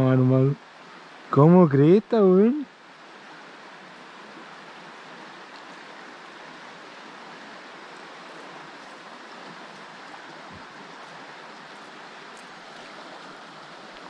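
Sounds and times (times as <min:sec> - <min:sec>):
river water running: 0:00.0 - 0:14.0.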